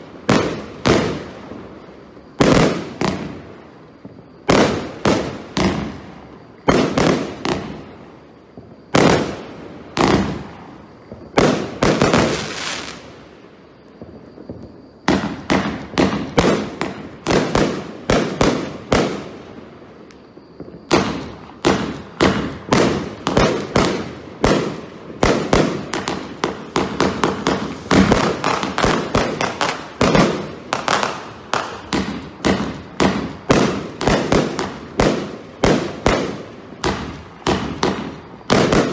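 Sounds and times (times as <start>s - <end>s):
firework bangs: 0.0s - 19.6s, 20.3s - 38.9s
firework crackle: 0.0s - 38.9s.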